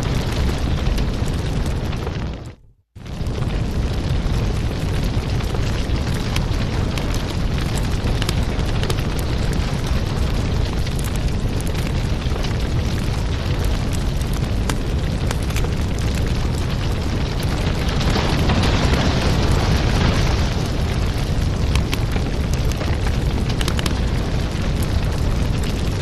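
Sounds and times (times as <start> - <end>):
fire crackling: 0.0 - 26.0.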